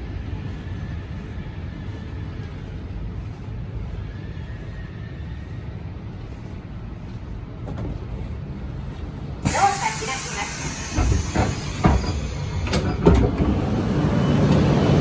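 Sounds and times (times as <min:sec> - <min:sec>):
station platform rumble: 0:00.0 - 0:15.0.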